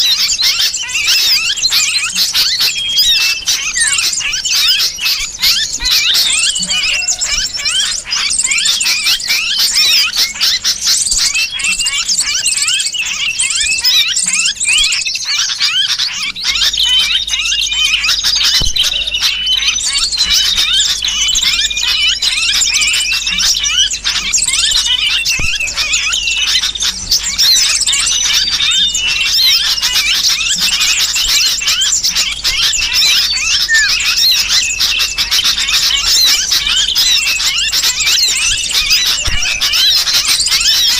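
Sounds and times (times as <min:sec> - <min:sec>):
bulbul calls: 0:00.0 - 0:40.9
small birds chirping: 0:00.0 - 0:40.9.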